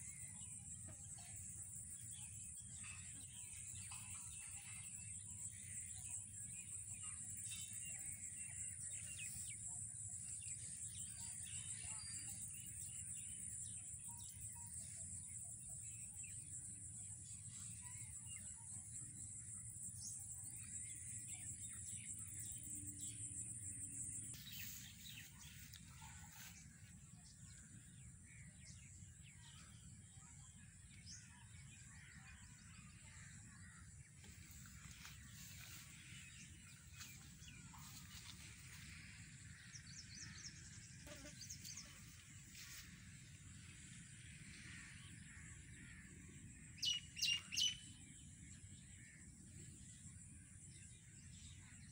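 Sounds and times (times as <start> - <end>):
faint bird chirps: 0.0 - 51.9.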